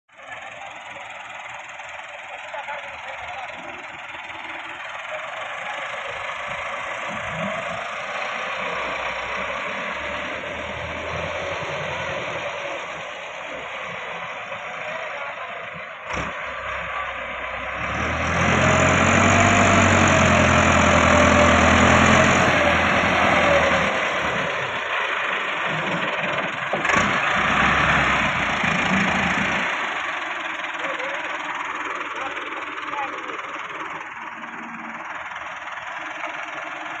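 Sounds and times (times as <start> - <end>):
tractor diesel engine running: 0.1 - 37.0.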